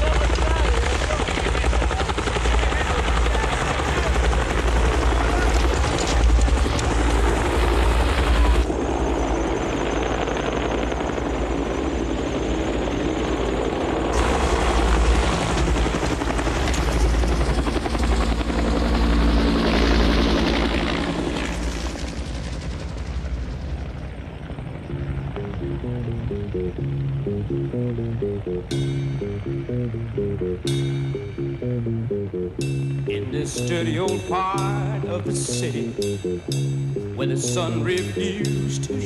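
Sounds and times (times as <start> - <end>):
helicopter rotor throb: 0.0 - 39.0
helicopter turbine noise: 0.0 - 39.0.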